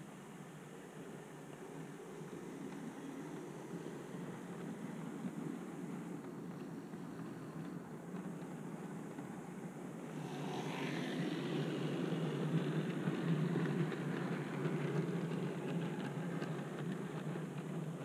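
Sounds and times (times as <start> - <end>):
model train rumbling on track: 0.0 - 18.0.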